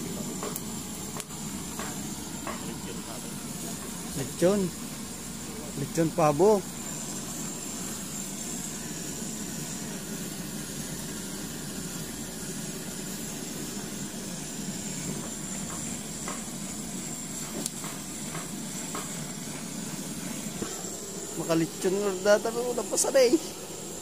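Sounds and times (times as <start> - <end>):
blowtorch hissing: 0.0 - 24.0.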